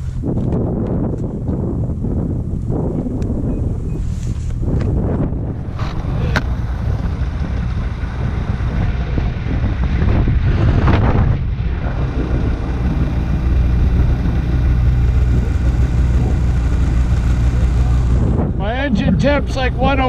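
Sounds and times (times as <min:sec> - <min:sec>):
snowmobile engine running: 0:03.3 - 0:20.0.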